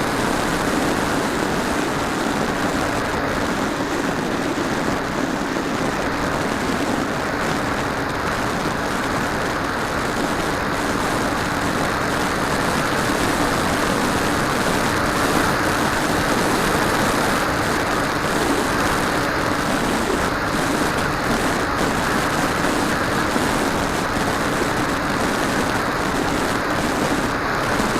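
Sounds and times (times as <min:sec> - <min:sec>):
propeller motor hum: 0:00.0 - 0:27.9
wind noise: 0:00.0 - 0:27.9.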